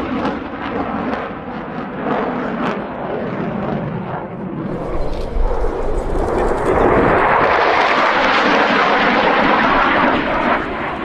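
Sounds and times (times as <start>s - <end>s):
jet aircraft passing overhead: 0.0s - 11.0s.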